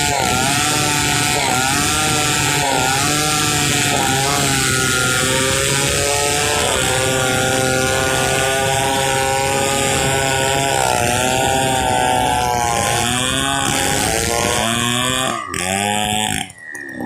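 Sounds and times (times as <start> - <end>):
chainsaw ripping a log: 0.0 - 16.6.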